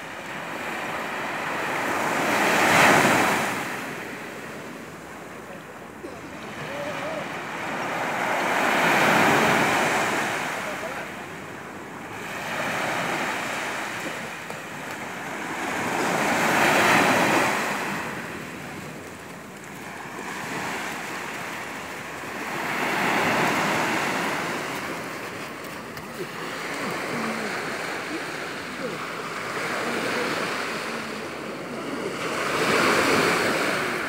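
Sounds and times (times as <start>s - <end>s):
sea surf breaking on shore: 0.0s - 34.0s.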